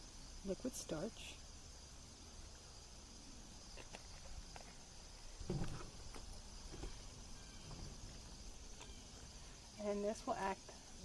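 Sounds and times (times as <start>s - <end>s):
steady high-pitched hiss: 0.0s - 11.0s.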